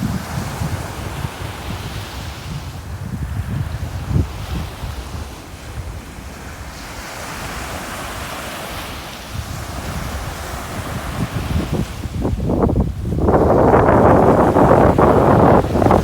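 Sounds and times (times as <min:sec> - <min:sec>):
ocean surf washing: 0:00.0 - 0:16.0
wind gusting on microphone: 0:00.0 - 0:16.0.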